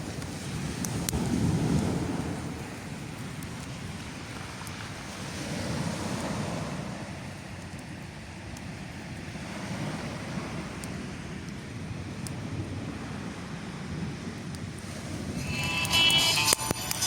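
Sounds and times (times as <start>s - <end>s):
sea surf washing ashore: 0.0s - 17.0s
wind rumble: 0.0s - 17.0s.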